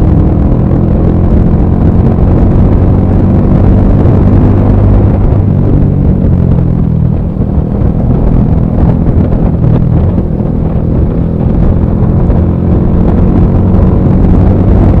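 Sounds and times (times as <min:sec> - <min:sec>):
motorcycle engine at speed: 0:00.0 - 0:15.0
wind buffeting on microphone: 0:00.0 - 0:15.0.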